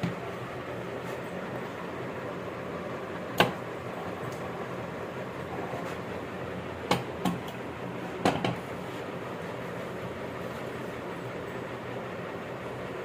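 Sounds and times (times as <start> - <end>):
workshop hum: 0.0 - 13.0.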